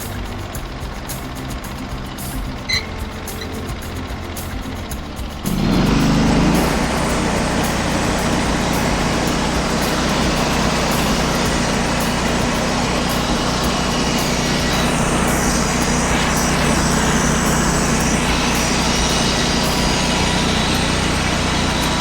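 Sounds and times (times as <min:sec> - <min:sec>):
sawmill engine droning: 0:00.0 - 0:22.0.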